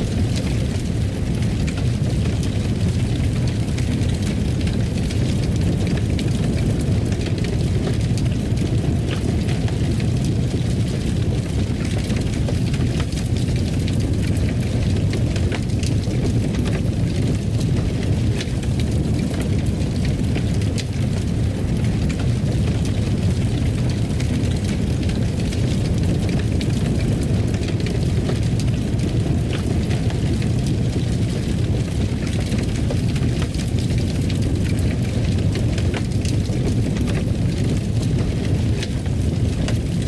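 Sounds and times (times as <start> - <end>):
fire crackling in fireplace: 0.0 - 40.0.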